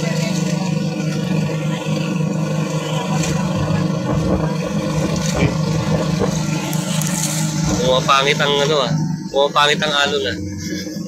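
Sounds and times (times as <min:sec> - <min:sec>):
boat engine running: 0:00.0 - 0:11.0
water splashing along hull: 0:00.0 - 0:11.0.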